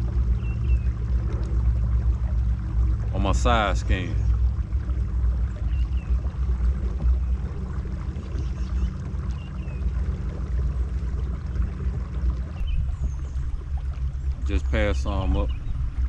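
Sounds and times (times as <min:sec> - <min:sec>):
kayak water noise and rumble: 0:00.0 - 0:16.0.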